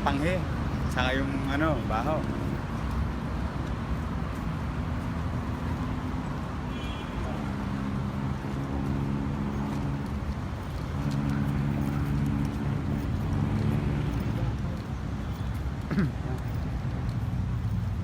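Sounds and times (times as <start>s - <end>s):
road noise hum: 0.0s - 18.0s
vehicle engines running: 0.0s - 18.0s.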